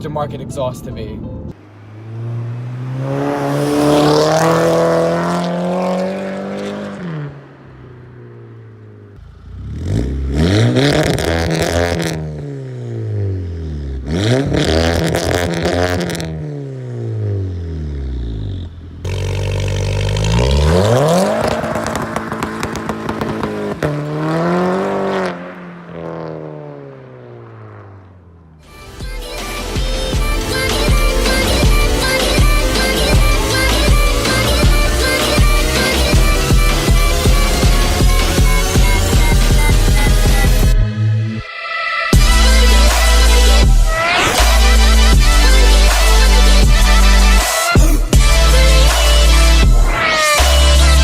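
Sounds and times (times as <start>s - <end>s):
car exhaust revving: 1.5s - 28.6s, 30.0s - 41.4s, 42.2s - 51.0s.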